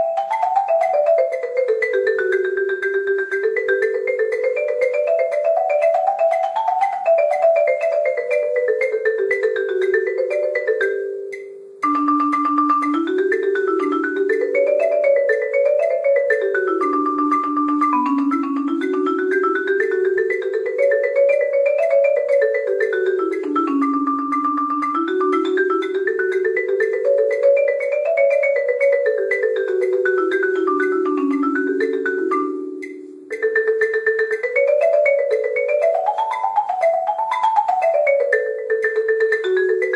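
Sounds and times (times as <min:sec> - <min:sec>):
marimba scale runs: 0:00.0 - 0:39.9.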